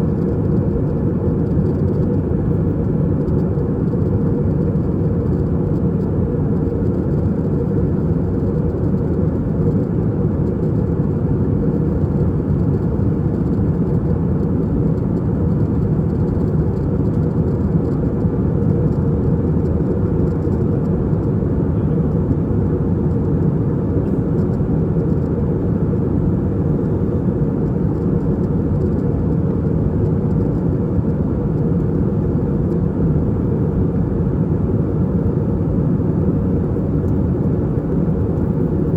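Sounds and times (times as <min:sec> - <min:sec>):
aircraft engines droning: 0:00.0 - 0:38.9
airflow over fuselage: 0:00.0 - 0:38.9.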